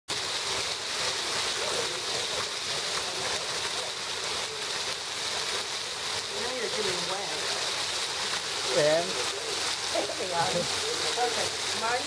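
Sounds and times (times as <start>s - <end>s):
heavy rain and hail falling: 0.1s - 12.0s.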